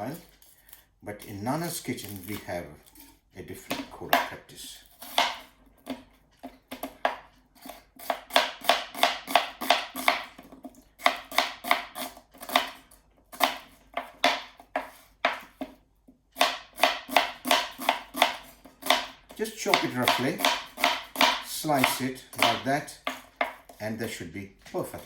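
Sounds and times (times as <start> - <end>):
knife chopping onion on board: 3.6 - 15.8, 16.4 - 25.0.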